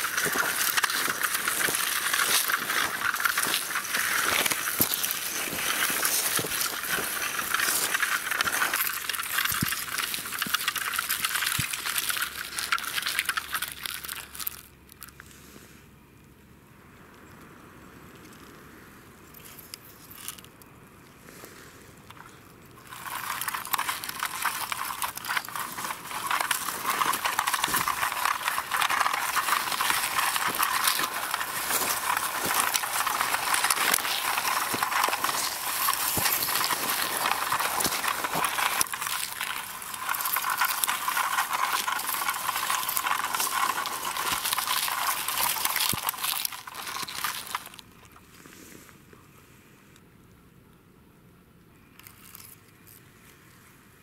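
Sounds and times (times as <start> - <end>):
toy car crunching through leaves: 0.0 - 15.3, 19.4 - 20.6, 22.0 - 48.8, 51.9 - 53.5.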